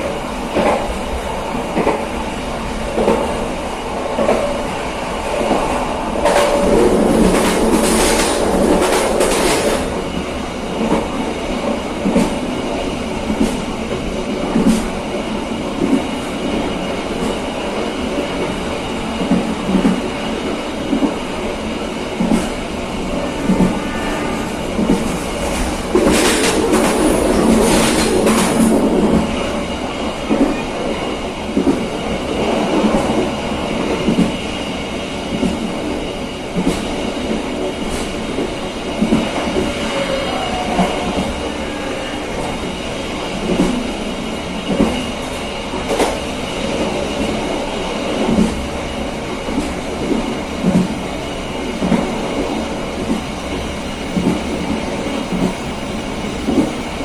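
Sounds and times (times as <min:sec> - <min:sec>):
train wheels clacking on rails: 0:00.0 - 0:57.0.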